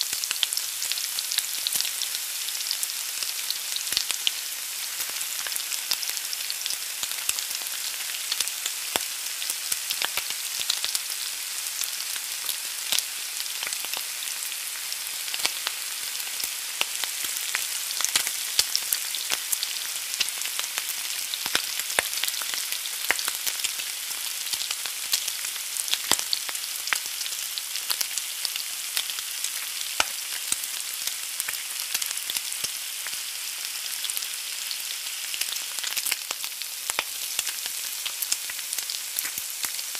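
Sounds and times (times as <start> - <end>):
egg sizzling in a pan: 0.0 - 39.9.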